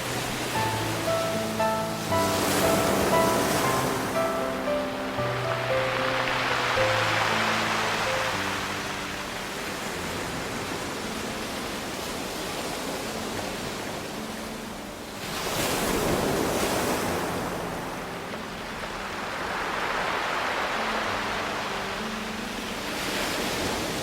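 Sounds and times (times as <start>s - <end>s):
large wave breaking: 0.0s - 13.8s, 15.2s - 24.0s
waves washing onto pebble beach: 0.0s - 24.0s.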